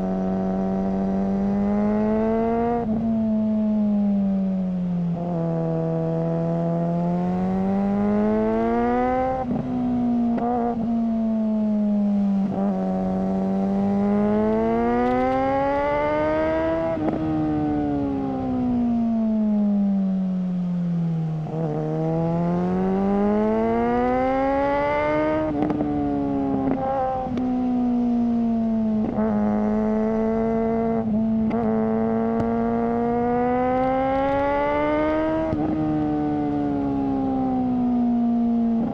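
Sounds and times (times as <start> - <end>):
motorcycle engine revving: 0.0 - 4.2, 5.0 - 20.2, 21.2 - 38.9.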